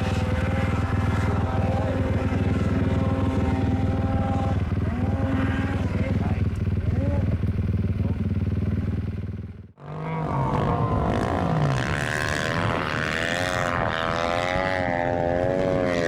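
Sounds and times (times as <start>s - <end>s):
snowmobile engine revving: 0.0s - 8.8s, 9.8s - 16.0s
snowmobile engine droning: 0.0s - 16.0s.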